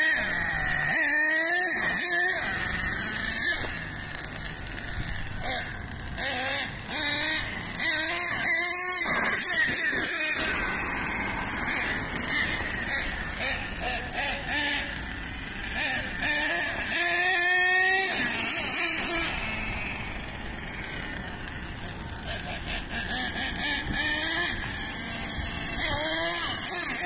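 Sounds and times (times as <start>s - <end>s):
rc car engine revving: 0.0s - 27.0s.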